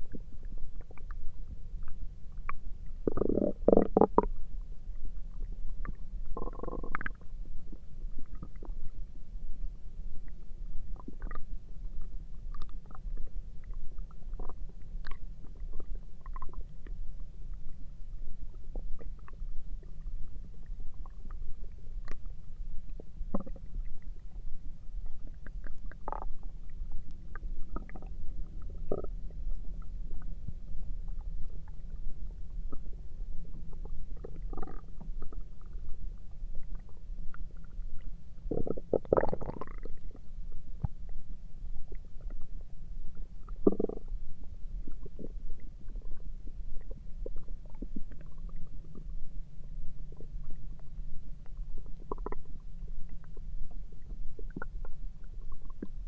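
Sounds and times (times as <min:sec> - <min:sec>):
stomach gurgling: 0:00.0 - 0:56.0.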